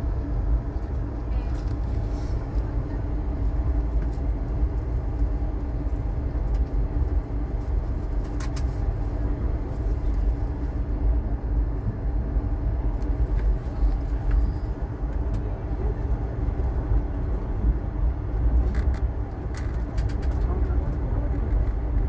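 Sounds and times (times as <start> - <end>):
train rumbling on track: 0.0 - 22.0.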